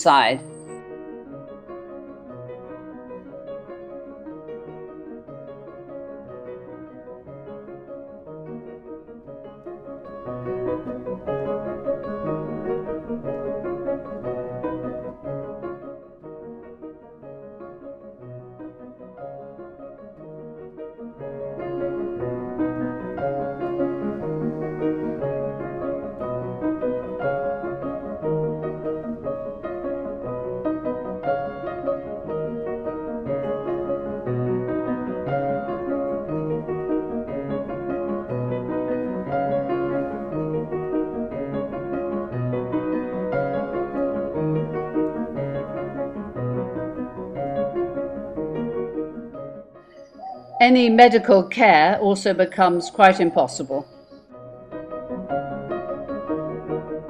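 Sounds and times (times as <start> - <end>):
background piano music: 0.0 - 57.0.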